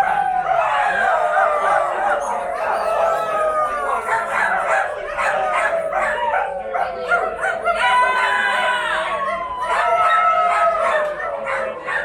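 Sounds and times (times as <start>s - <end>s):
voices howling and yipping: 0.0s - 12.0s.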